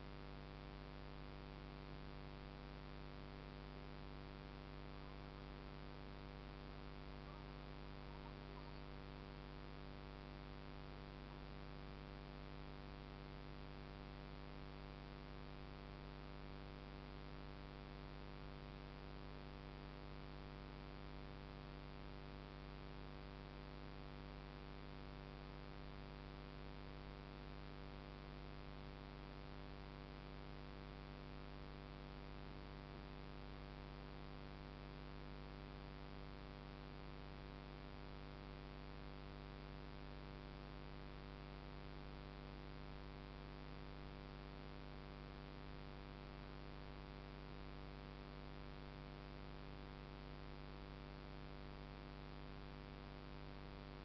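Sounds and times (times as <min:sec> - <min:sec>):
faint electrical hum: 0:00.0 - 0:54.0.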